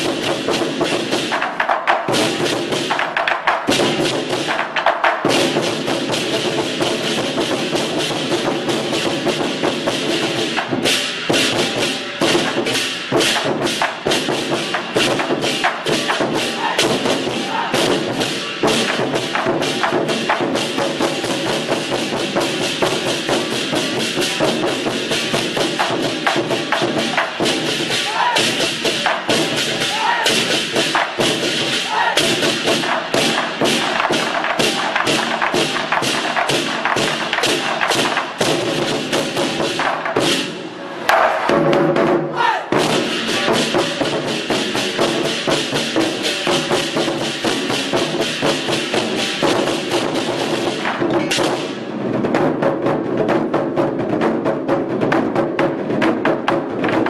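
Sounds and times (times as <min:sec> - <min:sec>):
barrel drums beaten with sticks: 0:00.0 - 0:57.0.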